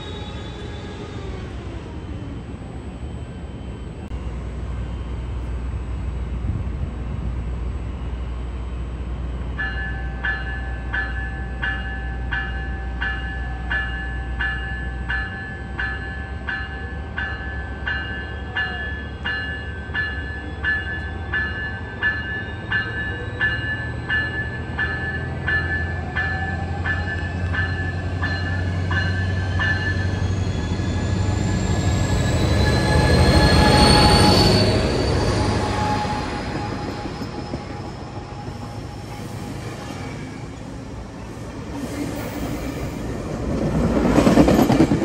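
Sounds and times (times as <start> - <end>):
diesel locomotive rumbling: 0.0 - 45.0.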